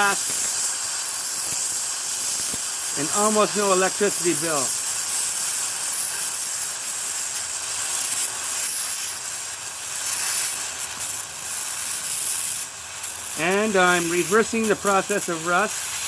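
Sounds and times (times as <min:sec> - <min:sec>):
plasma torch hissing: 0:00.0 - 0:16.0.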